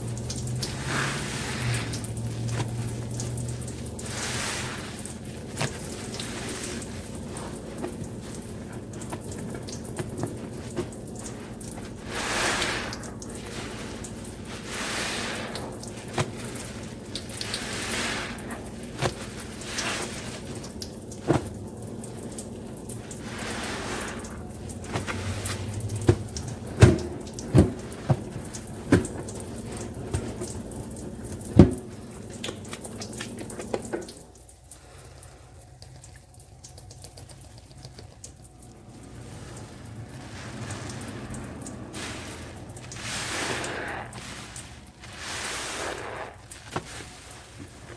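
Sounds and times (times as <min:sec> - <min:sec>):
sponge being squeezed: 0:00.0 - 0:35.0, 0:35.7 - 0:47.9
water streaming and dripping: 0:00.0 - 0:47.9.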